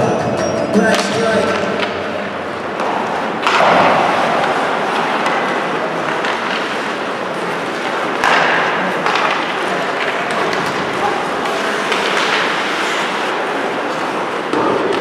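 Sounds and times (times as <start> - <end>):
skates scraping on ice: 0.9 - 15.0.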